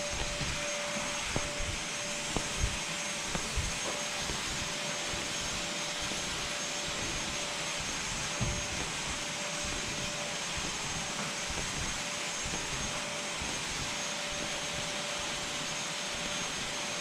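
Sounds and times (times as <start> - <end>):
motor whirring with whine: 0.0 - 17.0.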